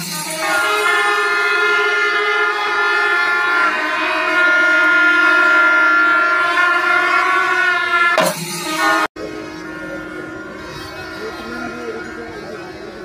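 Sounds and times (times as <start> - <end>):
brass horns long held blast: 0.0 - 13.0.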